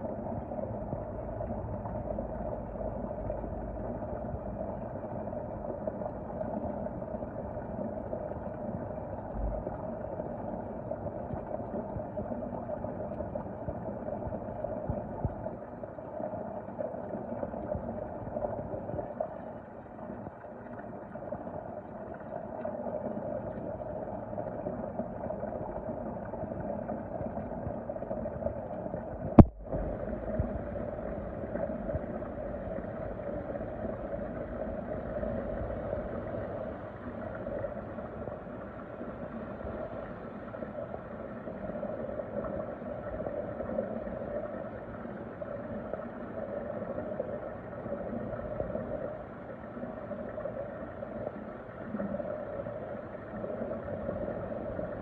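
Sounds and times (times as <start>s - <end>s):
underwater water churning hum: 0.0s - 55.0s.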